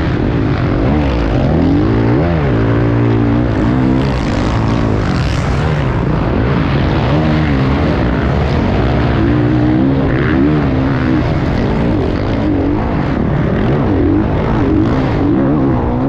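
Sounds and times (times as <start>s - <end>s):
motorcycle engine racing: 0.0s - 16.0s.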